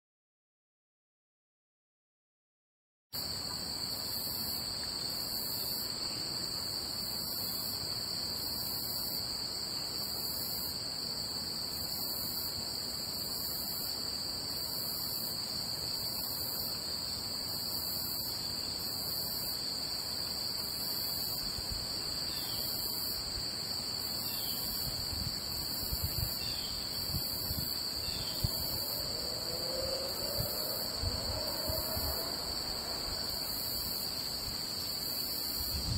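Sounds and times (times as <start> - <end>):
insects trilling: 3.2 - 35.9.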